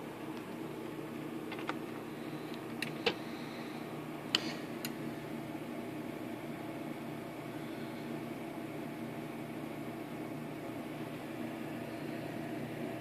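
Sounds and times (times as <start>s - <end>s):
turntable mechanical hum: 0.0s - 13.0s.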